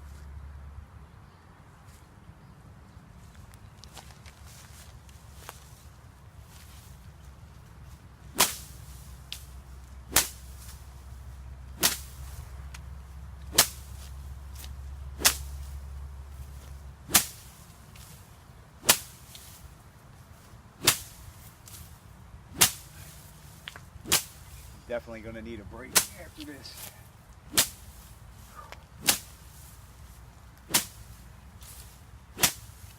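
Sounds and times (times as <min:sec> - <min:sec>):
sapling slapping tall grass: 0:03.3 - 0:24.9, 0:25.8 - 0:32.9.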